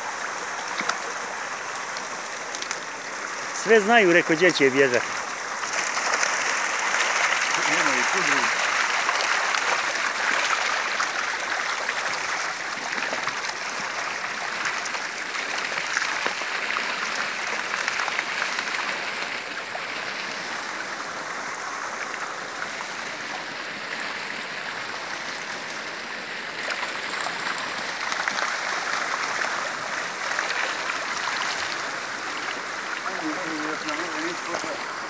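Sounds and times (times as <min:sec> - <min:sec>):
water rushing and splashing: 0:00.0 - 0:35.0.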